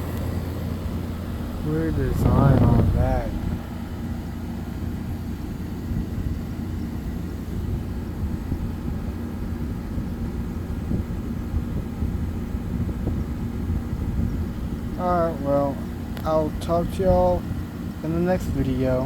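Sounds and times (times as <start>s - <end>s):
air conditioner running: 0.0s - 19.0s.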